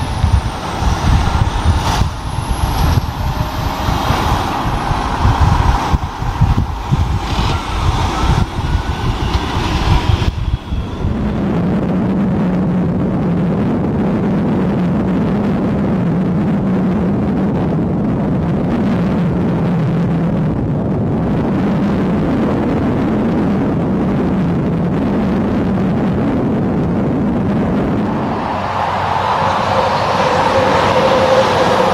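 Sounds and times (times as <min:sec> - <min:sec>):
diesel truck engine rumble: 0:00.0 - 0:31.9.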